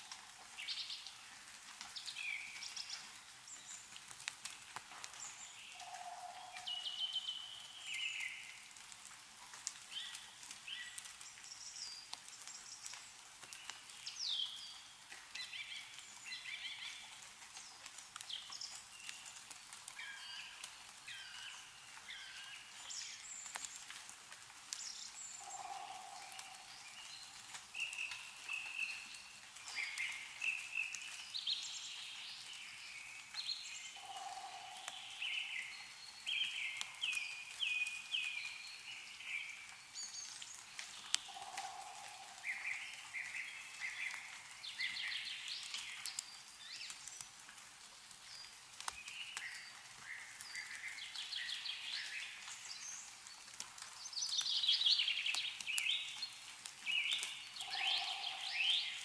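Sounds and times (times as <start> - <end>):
meltwater dripping: 0.0 - 59.0
small birds chirping: 0.1 - 47.4, 48.0 - 59.0.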